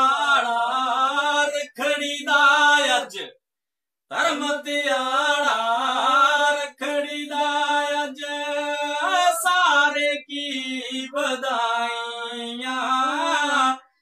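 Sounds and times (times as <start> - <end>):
man singing unaccompanied: 0.0 - 3.4, 4.1 - 14.0.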